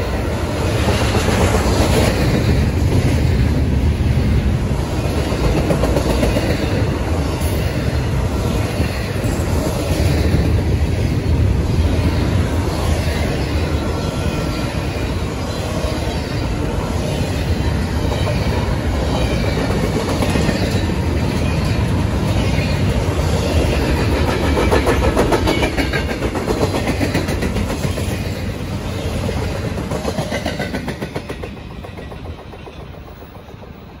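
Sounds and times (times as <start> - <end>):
freight train wheels clacking: 0.0 - 34.0.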